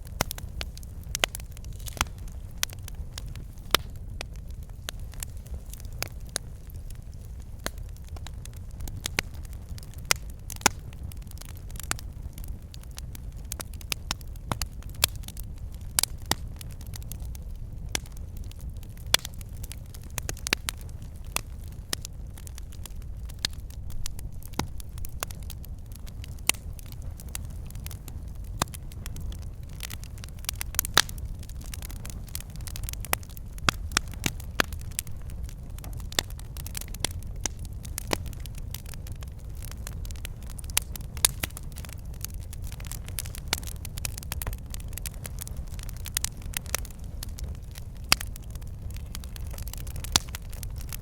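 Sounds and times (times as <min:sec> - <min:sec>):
logs crackling and popping: 0:00.0 - 0:51.0
low fire rumble: 0:00.0 - 0:51.0.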